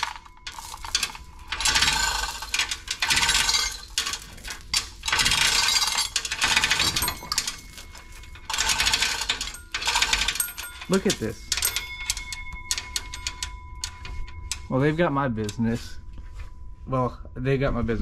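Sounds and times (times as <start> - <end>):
chain rattling through hoist: 0.0 - 14.8.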